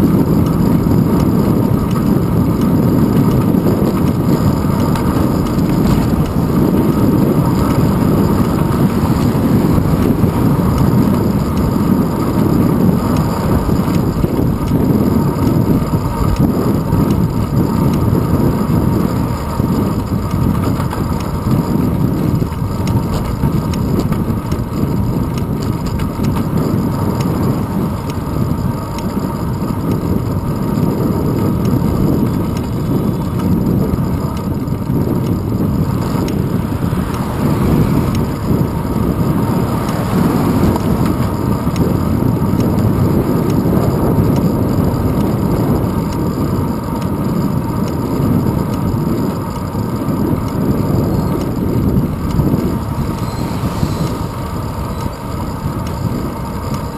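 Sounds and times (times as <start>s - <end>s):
bicycle tyres rumbling on asphalt: 0.0s - 56.9s
wind buffeting microphone: 0.0s - 56.9s.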